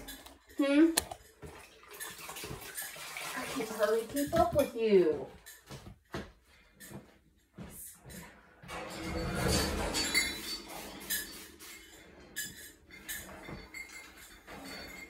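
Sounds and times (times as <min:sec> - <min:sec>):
dishes clinking and rattling: 0:00.0 - 0:06.2, 0:08.1 - 0:15.0.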